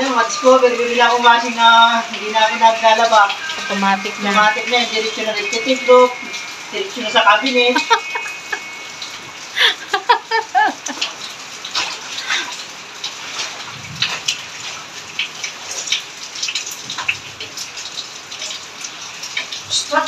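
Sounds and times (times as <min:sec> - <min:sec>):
steady rain falling: 0:00.0 - 0:20.0
water splashing in basins: 0:00.0 - 0:20.0.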